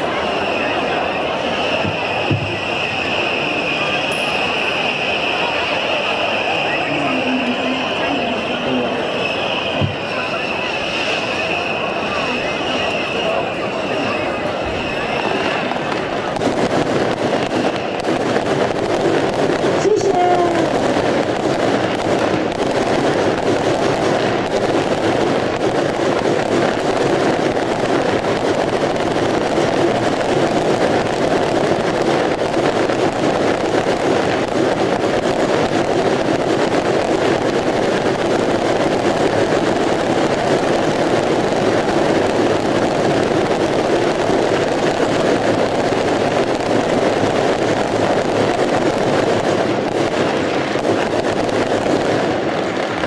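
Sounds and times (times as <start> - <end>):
bottle rockets and firecrackers barrage: 0.0 - 53.0.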